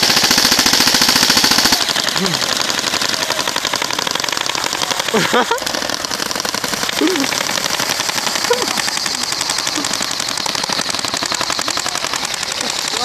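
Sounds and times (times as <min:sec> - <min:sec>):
airsoft guns firing full auto: 0:00.0 - 0:13.0.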